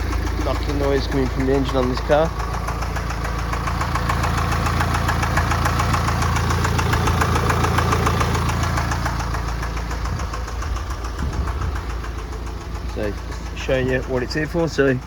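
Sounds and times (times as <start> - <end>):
diesel engine knocking: 0.0 - 15.0.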